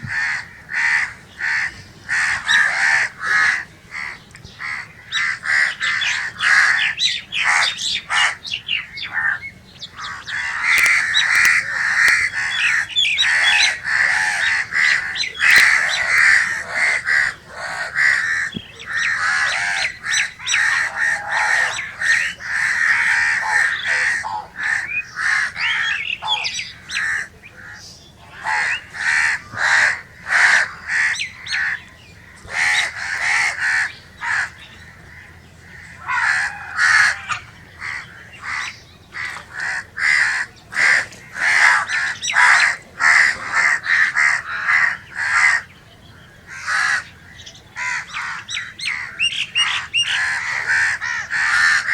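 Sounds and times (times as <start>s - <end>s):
crows cawing: 0.0s - 51.9s.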